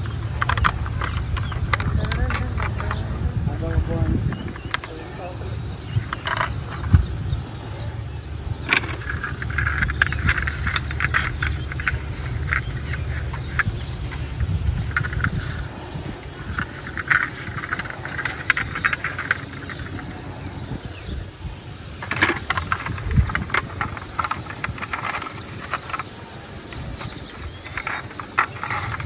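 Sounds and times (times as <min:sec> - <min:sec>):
plastic toy clicks and rattles: 0:00.0 - 0:05.0, 0:06.0 - 0:07.0, 0:08.6 - 0:15.8, 0:16.4 - 0:20.2, 0:22.0 - 0:29.0
toy cars rolling rumble: 0:00.0 - 0:07.4, 0:08.1 - 0:20.6, 0:21.6 - 0:29.0.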